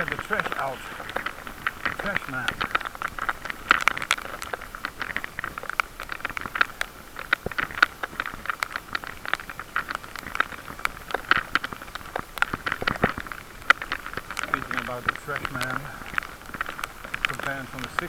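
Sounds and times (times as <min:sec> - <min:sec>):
bicycle crackling and clicking: 0:00.0 - 0:18.0
microphone rattle and rub: 0:00.0 - 0:18.0.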